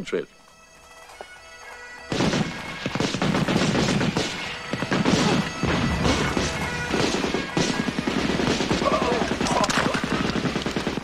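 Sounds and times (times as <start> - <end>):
explosion blasts: 2.1 - 11.0
rifle and machine-gun fire: 2.1 - 11.0.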